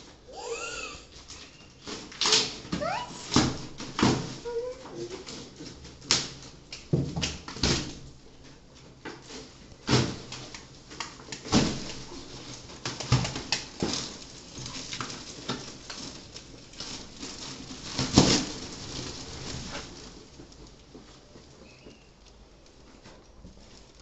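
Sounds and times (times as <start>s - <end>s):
plastic wrapping rustling: 0.0s - 24.0s.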